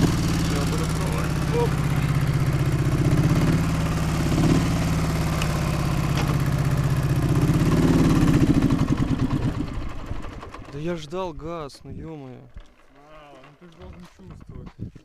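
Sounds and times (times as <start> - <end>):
motorcycle engine stalling: 0.0 - 11.3, 12.2 - 14.8.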